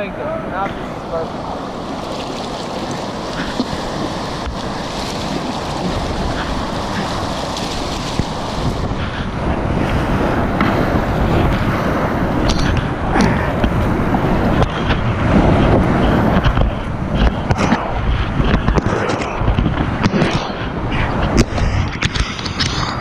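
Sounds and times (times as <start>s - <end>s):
whitewater rapids rushing: 0.0s - 23.0s
wind on microphone: 0.0s - 23.0s
paddle splashes: 0.4s - 23.0s.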